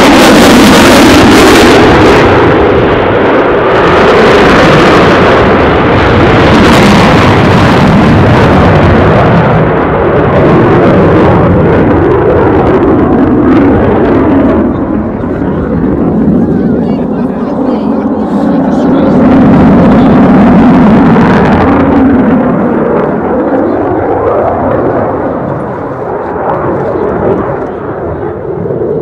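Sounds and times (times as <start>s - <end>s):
jet roar overhead: 0.0s - 29.0s.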